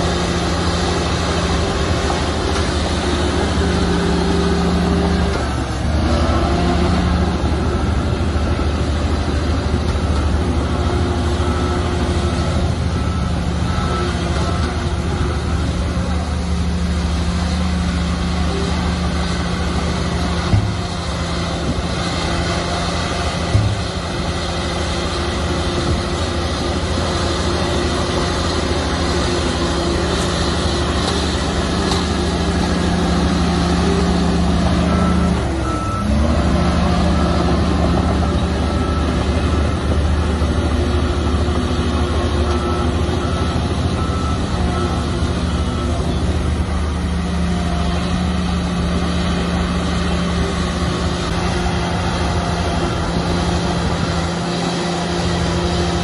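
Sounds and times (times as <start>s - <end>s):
heavy diesel machinery running: 0.0s - 56.0s
reversing alarm beeping: 0.0s - 56.0s.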